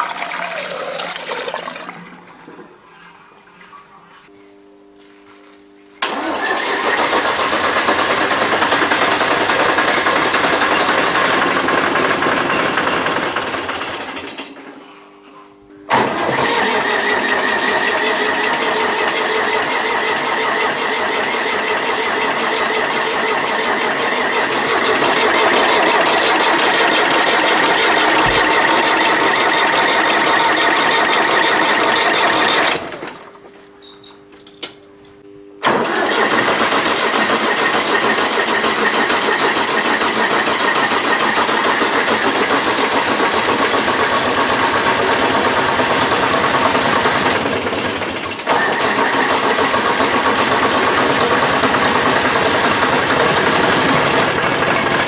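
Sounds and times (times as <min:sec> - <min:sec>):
tractor diesel engine starting: 0:06.0 - 0:14.6, 0:15.9 - 0:33.2, 0:35.6 - 0:55.0.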